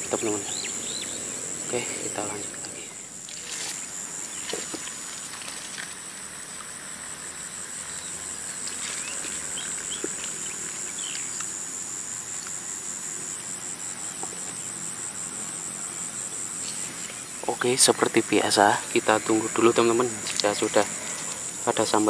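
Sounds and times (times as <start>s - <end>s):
faint ticks and rustles: 0.0s - 6.8s, 7.8s - 22.0s
insects chirring: 0.0s - 22.0s.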